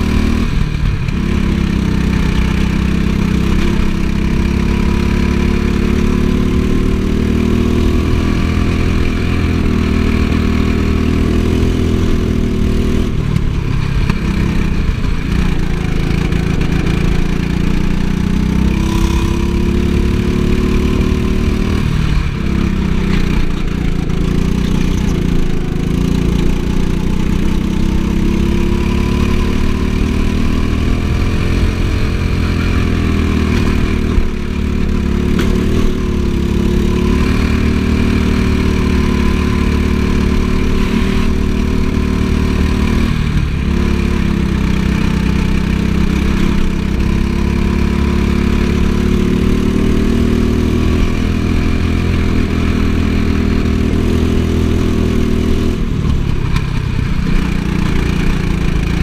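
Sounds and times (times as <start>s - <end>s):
go-kart engine running hard: 0.0s - 59.0s
wind and road noise: 0.0s - 59.0s.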